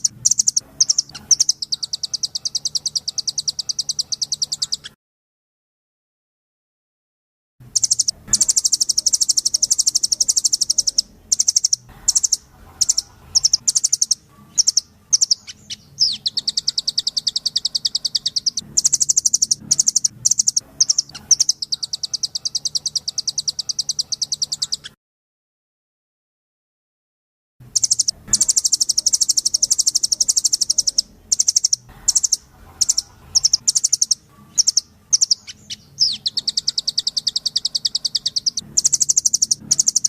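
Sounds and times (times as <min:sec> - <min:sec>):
songbird singing rapid trills: 0:00.0 - 0:04.9, 0:07.8 - 0:24.9, 0:27.8 - 0:40.0.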